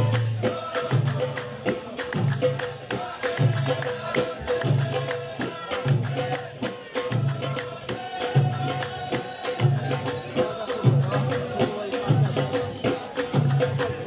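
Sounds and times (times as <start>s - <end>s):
frame drums and hand percussion: 0.0s - 14.0s.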